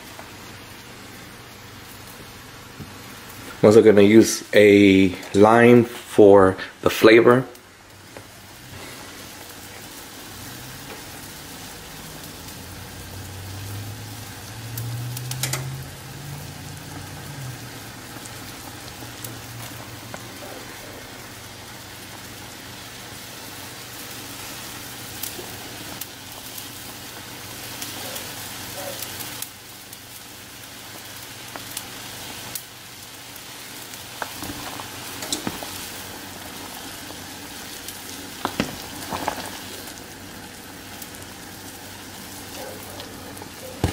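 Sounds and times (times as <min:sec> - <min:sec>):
soup boiling and bubbling: 0:00.0 - 0:43.9.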